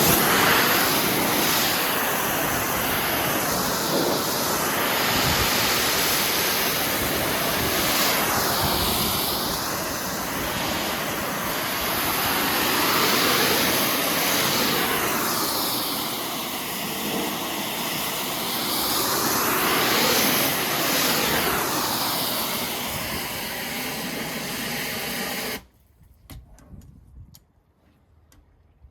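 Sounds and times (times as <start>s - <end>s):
pressure washer spray hissing: 0.0s - 25.7s.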